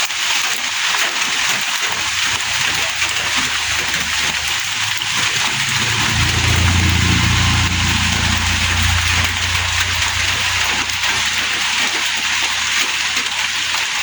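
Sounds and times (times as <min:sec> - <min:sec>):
steady rain falling: 0:01.0 - 0:14.0
low rumble: 0:01.3 - 0:12.6.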